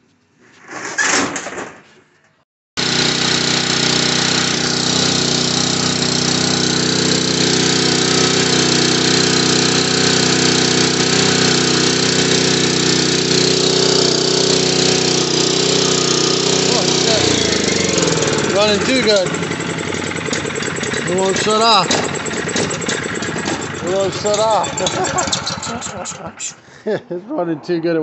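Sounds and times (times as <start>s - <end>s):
generator engine running: 2.8s - 26.8s.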